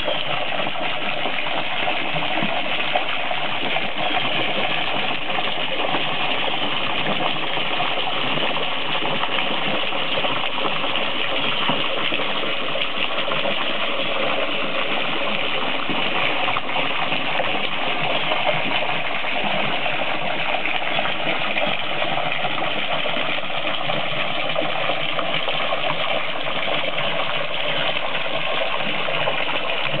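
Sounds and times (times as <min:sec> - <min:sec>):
hose water splashing into water: 0:00.0 - 0:30.0.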